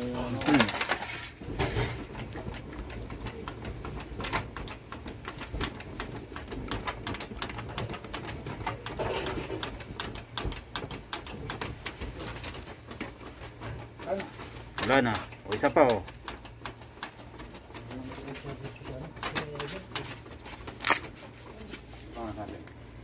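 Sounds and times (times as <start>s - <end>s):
cardboard fanning flaps: 0.0s - 23.0s
charcoal crackling: 0.0s - 23.0s.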